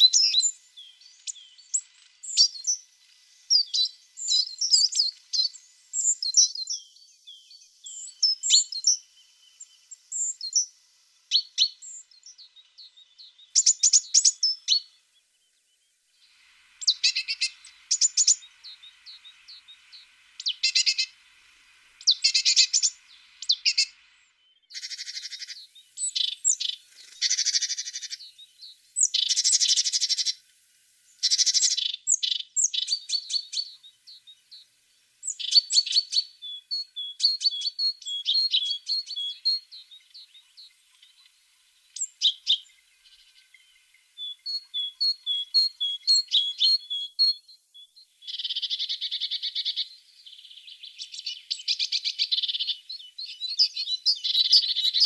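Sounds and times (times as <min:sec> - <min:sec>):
bird chirps and trills: 0:00.0 - 0:55.0.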